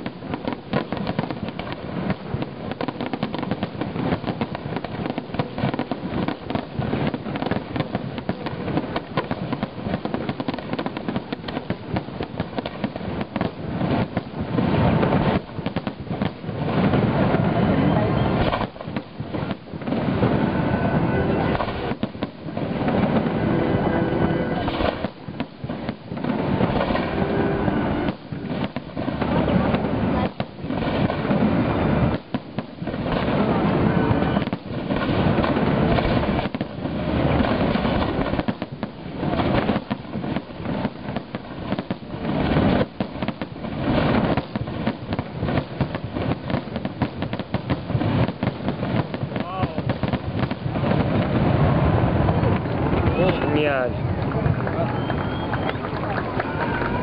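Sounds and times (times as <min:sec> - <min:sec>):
firework shells bursting and crackling: 0:00.0 - 0:57.0.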